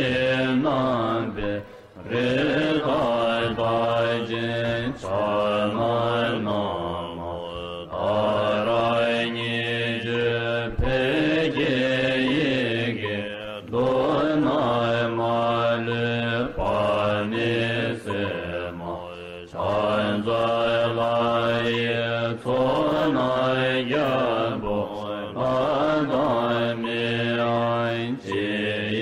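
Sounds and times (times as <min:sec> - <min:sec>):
person chanting: 0:00.0 - 0:29.0.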